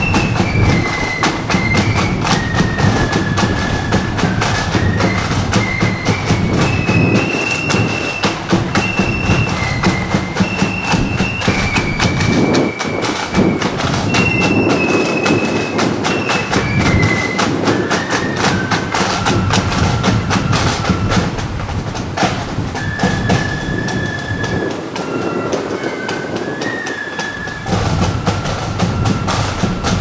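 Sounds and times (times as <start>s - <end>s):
flutes playing melody: 0.0s - 30.0s
rapid snare drum strokes: 0.0s - 30.0s.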